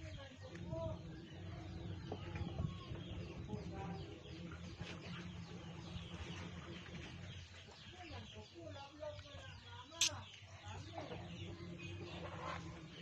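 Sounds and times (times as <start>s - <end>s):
chickens clucking: 0.5s - 13.0s.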